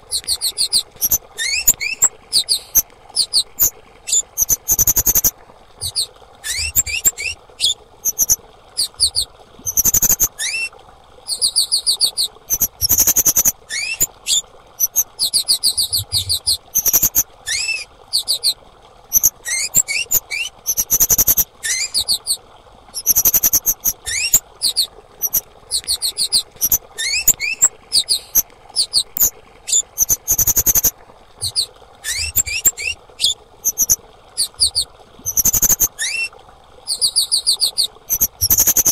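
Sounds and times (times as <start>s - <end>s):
insect chirps and trills: 0.1s - 10.6s, 11.3s - 22.4s, 23.0s - 36.2s, 36.9s - 38.9s.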